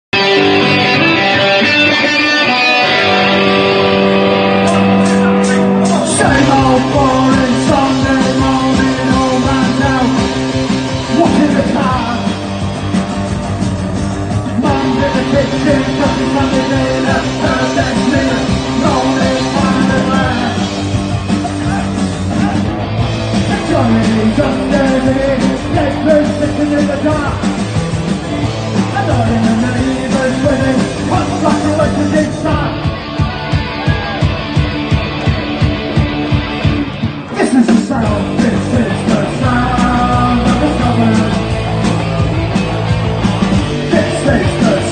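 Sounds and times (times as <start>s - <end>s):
bass: 0.0s - 44.9s
drums: 0.0s - 44.9s
electric guitar: 0.1s - 44.9s.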